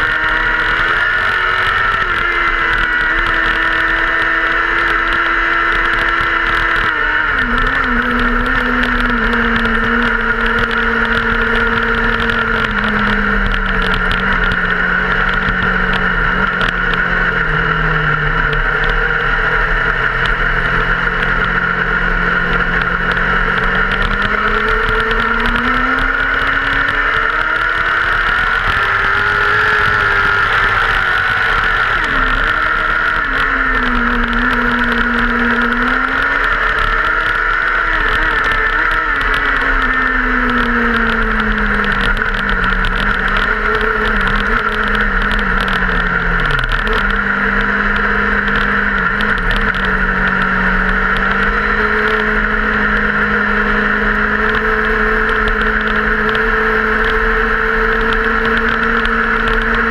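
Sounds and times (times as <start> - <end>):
race car engine: 0.0 - 59.9.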